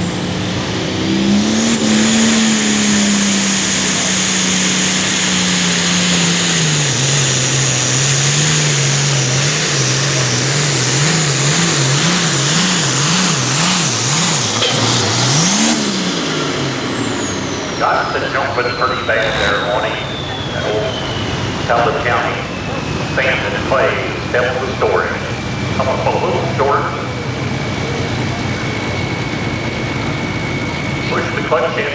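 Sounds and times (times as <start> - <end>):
high turbo whine: 0.0 - 31.9
tractor diesel engine at full throttle: 0.0 - 31.9.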